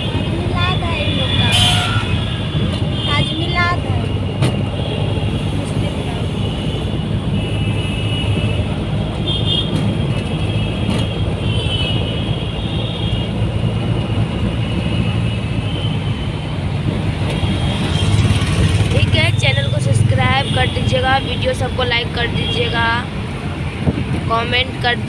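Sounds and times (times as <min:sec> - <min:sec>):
auto-rickshaw engine running: 0:00.0 - 0:25.0
road and traffic noise: 0:00.0 - 0:25.0.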